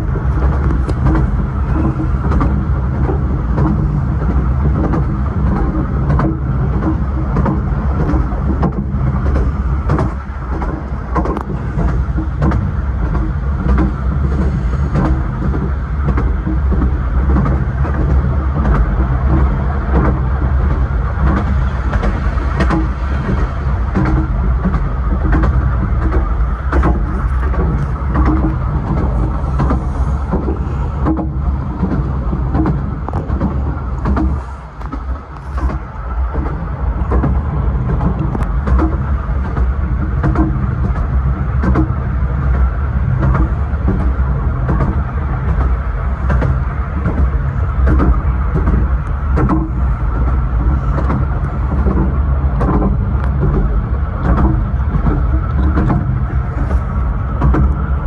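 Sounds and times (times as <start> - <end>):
railway carriage rumbling: 0.0 - 58.0
wheels clicking on rails: 0.0 - 58.0.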